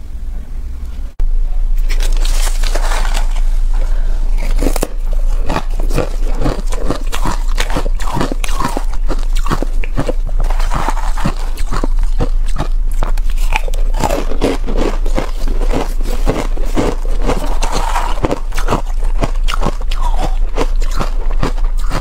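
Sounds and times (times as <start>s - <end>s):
crunching ice: 1.8s - 3.6s, 4.3s - 22.0s.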